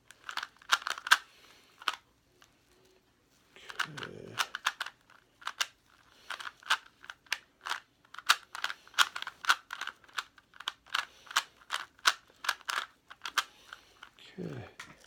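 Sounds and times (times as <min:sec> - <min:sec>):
puzzle cube plastic clicking: 0:00.0 - 0:02.5, 0:03.6 - 0:14.2.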